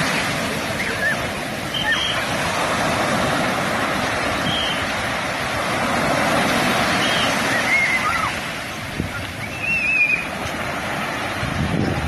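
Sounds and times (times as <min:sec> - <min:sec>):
surf washing up a sand beach: 0:00.0 - 0:12.0.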